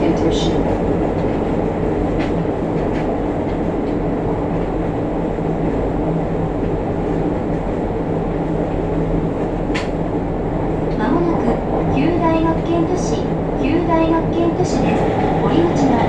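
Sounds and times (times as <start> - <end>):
electric train rolling rumble: 0.0 - 16.0.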